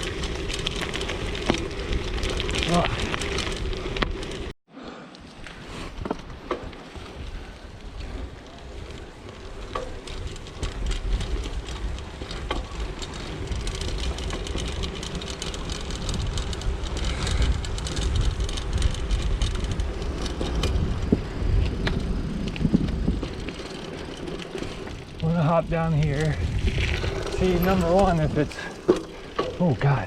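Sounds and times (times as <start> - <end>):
bicycle clicks and rattles: 0.0 - 4.5, 5.2 - 30.0
low wind rumble: 0.0 - 4.5, 5.2 - 30.0
bicycle tyres on gravel: 0.0 - 30.0.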